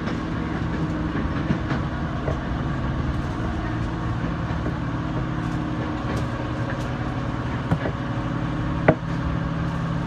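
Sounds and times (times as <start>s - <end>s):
electric train hum: 0.0s - 10.0s.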